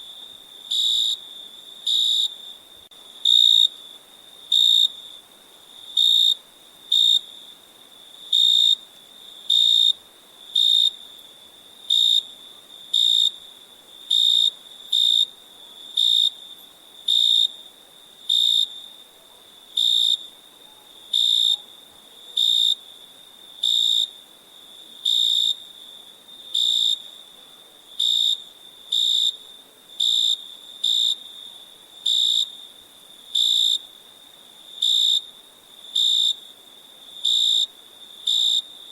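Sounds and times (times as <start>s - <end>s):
cricket chirping: 0.0s - 38.9s
faint steady hiss: 0.0s - 38.9s.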